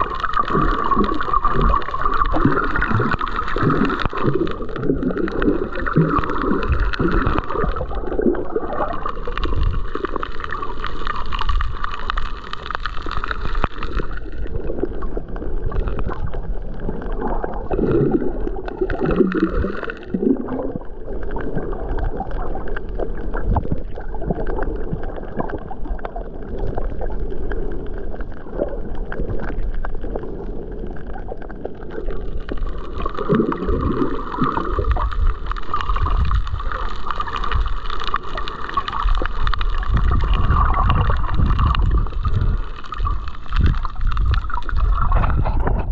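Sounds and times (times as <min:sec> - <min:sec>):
underwater gurgling and sloshing: 0:00.0 - 0:45.9.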